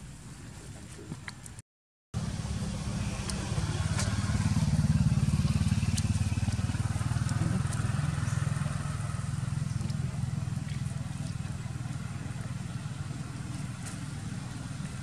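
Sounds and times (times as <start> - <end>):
small engine throbbing: 2.2 - 15.0.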